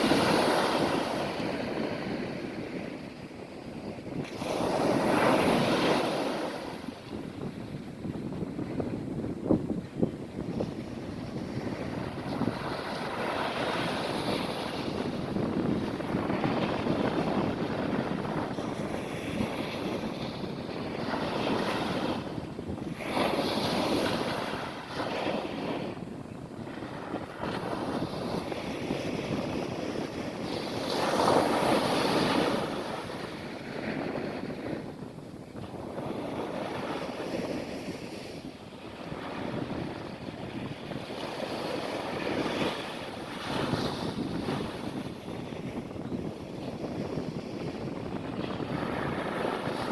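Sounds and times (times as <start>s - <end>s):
surf breaking on sandy beach: 0.0s - 49.9s.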